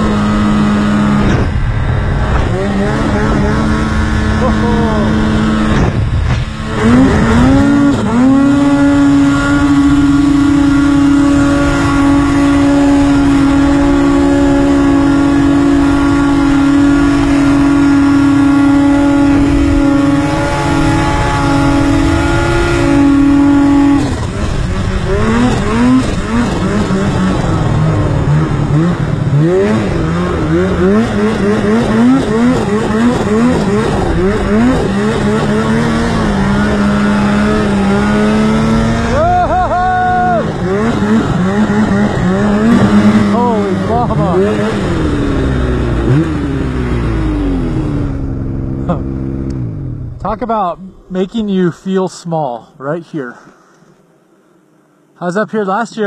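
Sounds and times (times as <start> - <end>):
snowmobile engine revving: 0.0 - 54.1.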